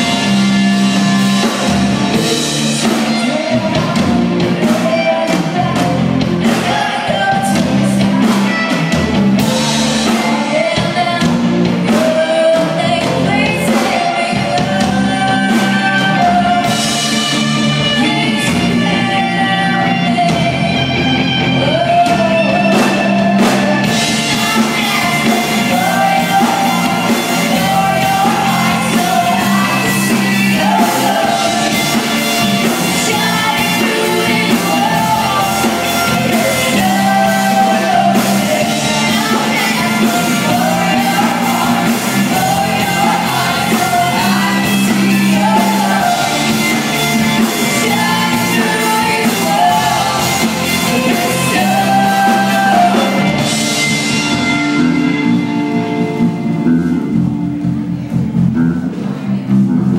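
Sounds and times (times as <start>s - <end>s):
woman singing: 0.0s - 53.8s
live rock band playing: 0.0s - 59.9s.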